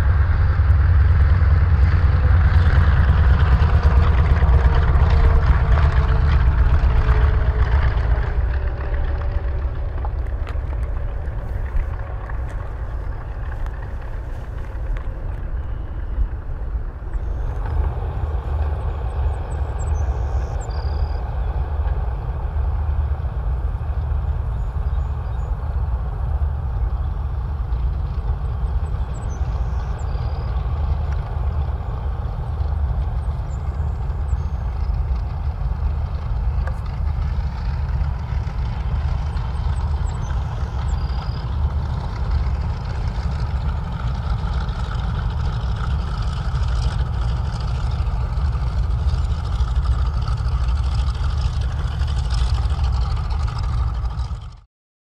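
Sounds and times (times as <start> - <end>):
radial aircraft engines rumbling: 0.0 - 54.7.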